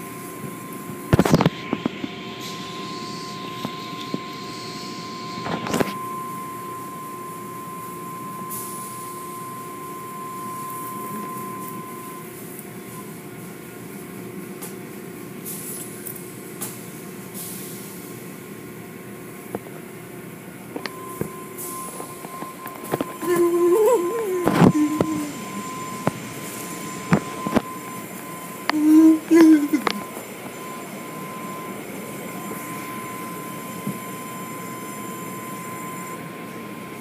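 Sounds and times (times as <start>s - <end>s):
high steady whine: 0.0s - 14.4s, 19.2s - 37.0s
machinery hum: 0.0s - 37.0s.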